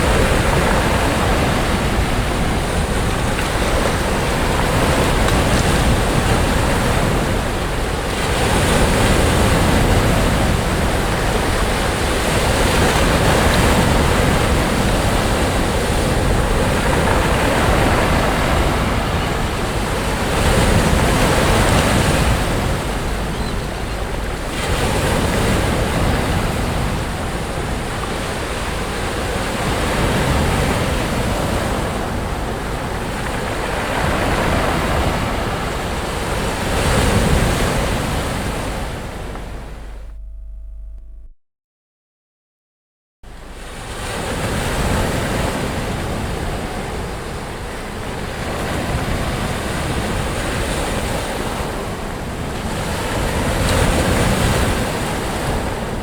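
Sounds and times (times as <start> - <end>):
sea surf breaking on beach: 0.0 - 40.3, 43.3 - 56.0.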